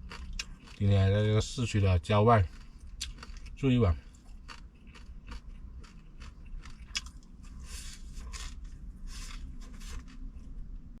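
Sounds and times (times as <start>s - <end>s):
chewing crispy rice crust: 0.0s - 10.6s.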